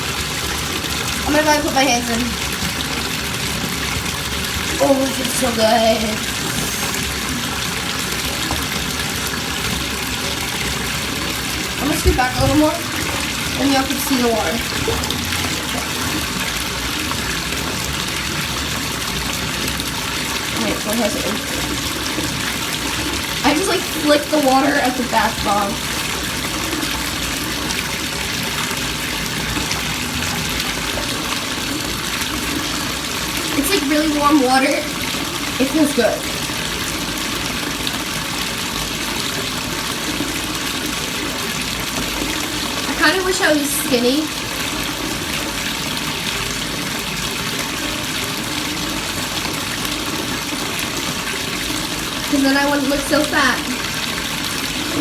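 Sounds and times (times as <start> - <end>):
bathtub tap running: 0.0 - 55.0.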